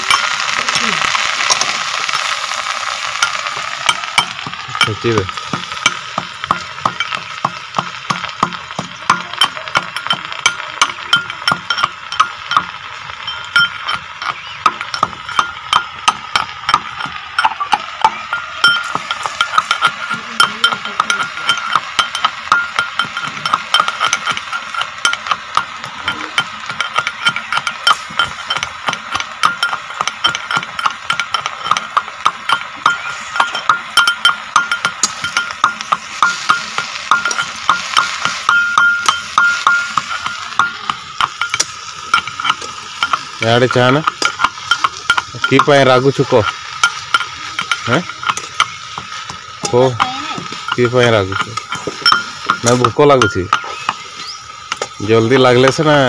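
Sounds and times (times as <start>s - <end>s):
metal pestle pounding in steel tumbler: 0.0s - 56.0s.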